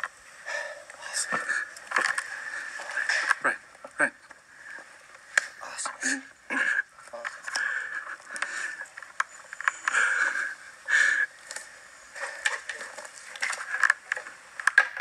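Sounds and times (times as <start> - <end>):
rustling through dry brush: 0.0 - 14.7.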